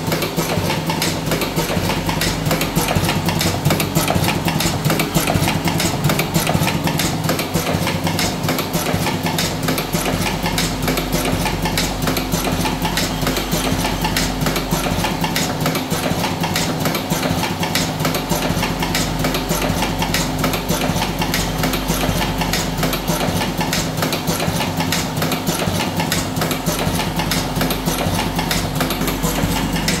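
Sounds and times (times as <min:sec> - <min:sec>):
motor hum: 0:00.0 - 0:30.0
rapid mechanical clicking: 0:00.0 - 0:30.0.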